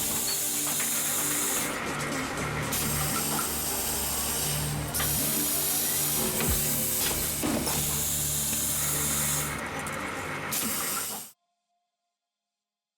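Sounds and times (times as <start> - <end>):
wire bending machine running: 0.0 - 11.3.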